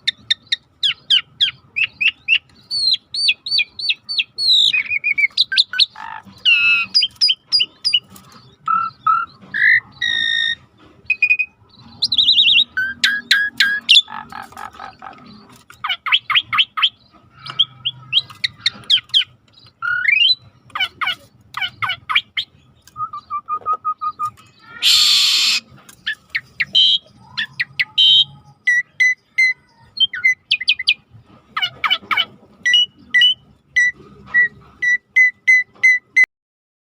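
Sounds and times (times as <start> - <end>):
starling song: 0.1 - 36.2.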